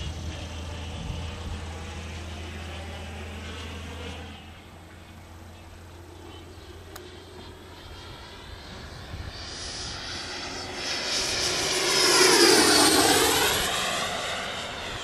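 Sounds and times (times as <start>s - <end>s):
model jet fan whine: 0.0s - 15.0s.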